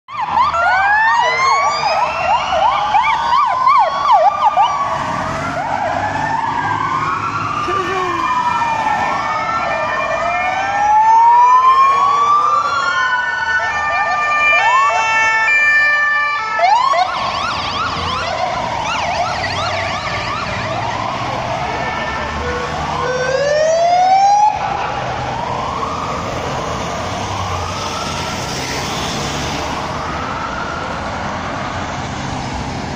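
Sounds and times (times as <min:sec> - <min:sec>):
emergency sirens wailing: 0:00.1 - 0:32.9
traffic noise: 0:00.1 - 0:32.9.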